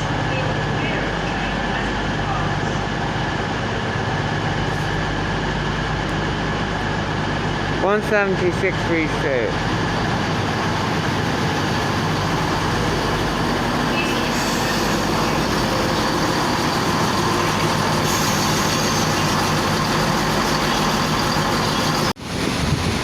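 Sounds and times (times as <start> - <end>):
diesel train engines humming: 0.0 - 23.0.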